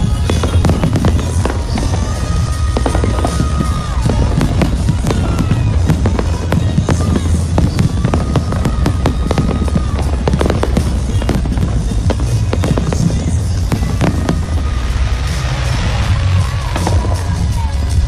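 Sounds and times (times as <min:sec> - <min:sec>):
fireworks bangs and crackles: 0:00.0 - 0:18.0
low rumble: 0:00.0 - 0:18.0.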